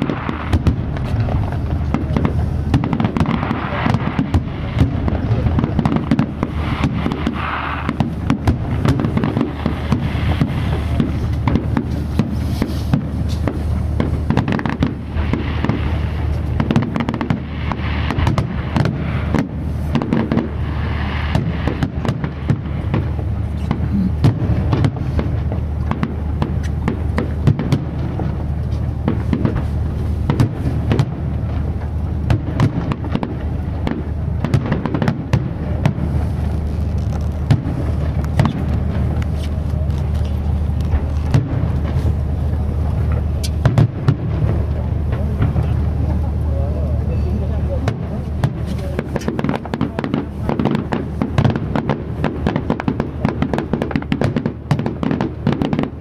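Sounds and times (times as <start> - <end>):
fireworks bangs and crackles: 0.0 - 56.0
low rumble: 0.0 - 56.0.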